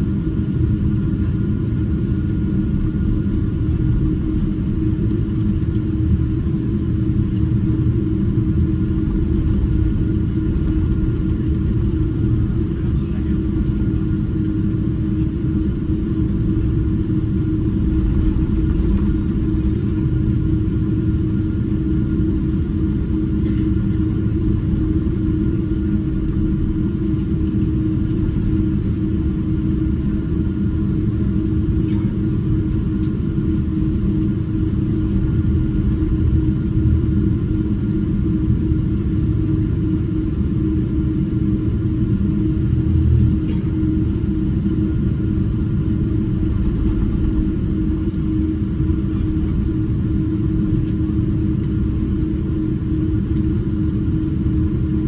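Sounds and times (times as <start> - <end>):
even hum: 0.0 - 55.0
jet engines and airflow rumbling: 0.0 - 55.0.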